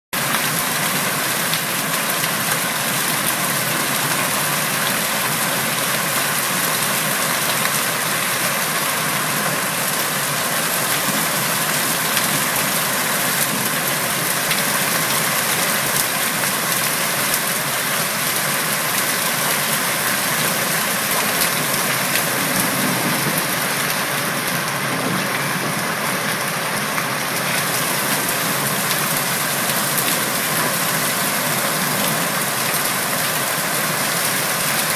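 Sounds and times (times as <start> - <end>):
heavy rain and hail pelting: 0.2 - 34.9.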